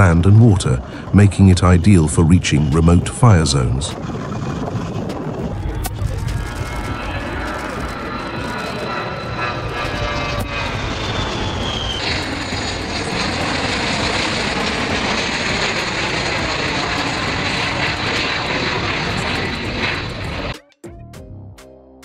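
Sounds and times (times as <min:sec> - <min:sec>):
high whine falling in pitch: 0:00.0 - 0:20.5
jet aircraft flying low: 0:00.0 - 0:20.6.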